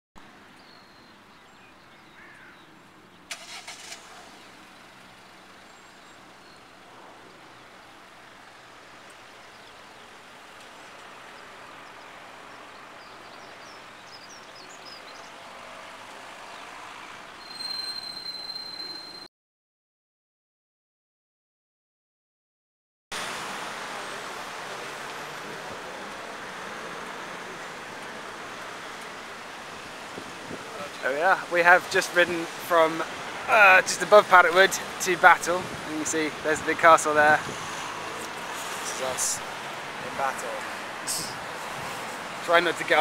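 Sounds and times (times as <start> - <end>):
road traffic hiss: 0.3 - 19.2, 23.1 - 43.0.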